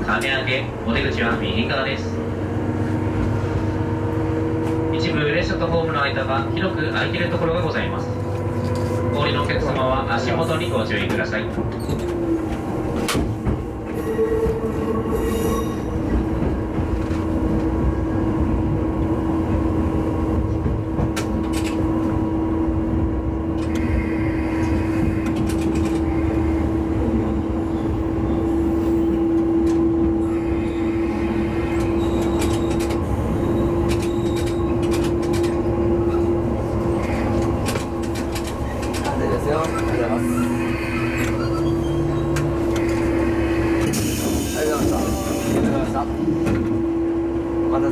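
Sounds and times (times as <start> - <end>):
diesel railcar running: 0.0 - 47.9.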